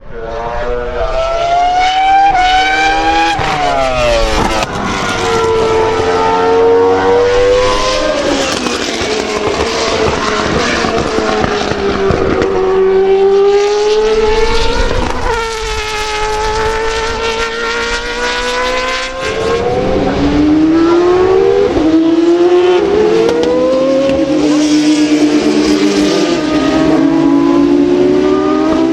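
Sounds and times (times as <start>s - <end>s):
racing car engines screaming: 0.1s - 28.9s.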